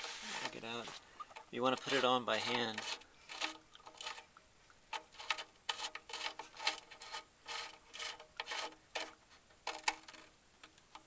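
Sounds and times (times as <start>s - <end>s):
drain plug clicking and scraping: 0.0s - 11.0s.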